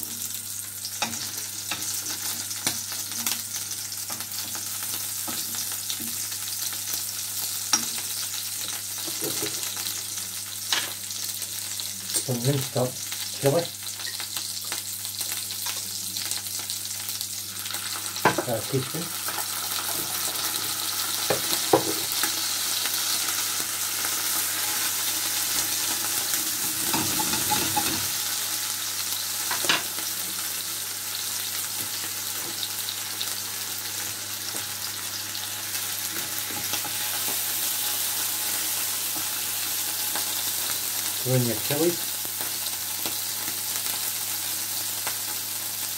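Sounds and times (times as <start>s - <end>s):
food sizzling in frying pan: 0.0s - 45.9s.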